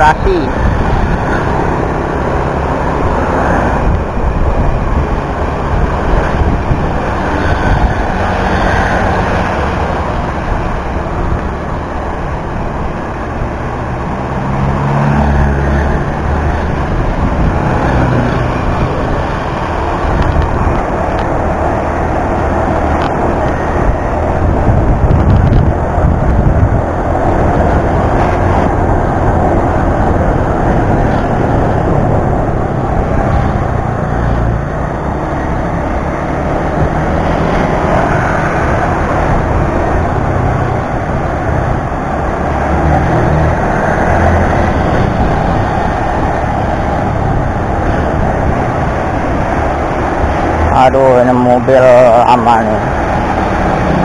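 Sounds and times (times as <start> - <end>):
wind on microphone: 0.0 - 50.7
road noise: 0.0 - 54.0.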